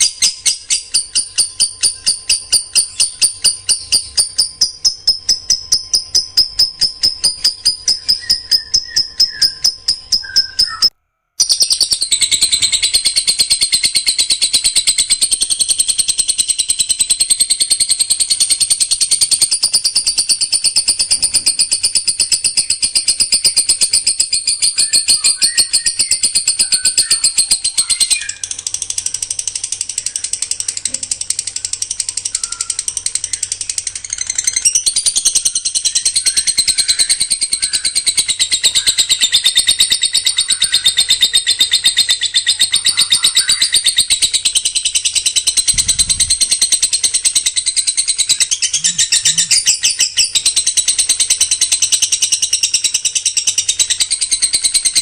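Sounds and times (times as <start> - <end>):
songbird rapid song: 0.0 - 55.0.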